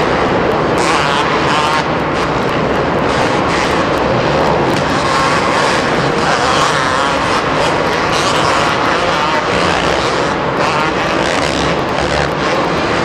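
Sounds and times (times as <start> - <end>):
motocross bikes buzzing engines: 0.0 - 13.0.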